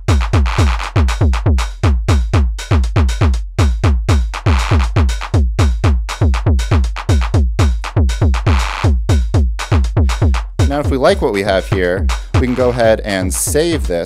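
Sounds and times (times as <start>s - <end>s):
electronic claps: 0.0s - 13.0s
bass drum hits with falling pitch: 0.0s - 13.6s
hi-hats: 0.0s - 14.0s.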